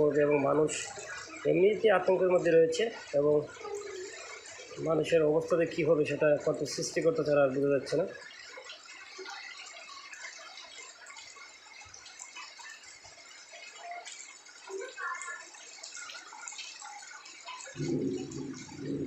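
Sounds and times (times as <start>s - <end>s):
heavy rain falling: 0.0s - 19.0s
water drips and splashes: 0.0s - 19.0s.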